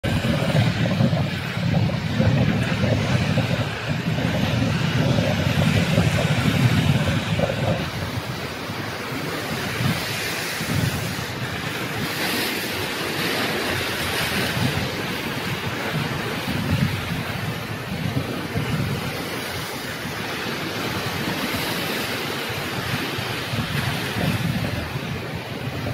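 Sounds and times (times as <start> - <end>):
surf breaking over rocks: 0.0 - 25.9
wind buffeting microphone: 0.0 - 25.9.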